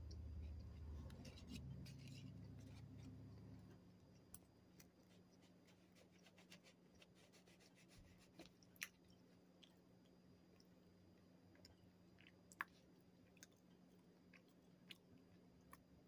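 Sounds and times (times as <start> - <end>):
faint chewing of donut: 0.0 - 16.0
low steady hum: 0.0 - 16.0.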